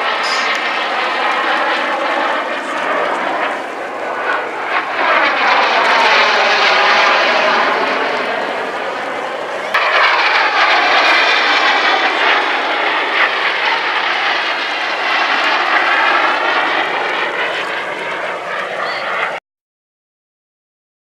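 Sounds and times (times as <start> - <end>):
jet engine roaring past: 0.0 - 19.4.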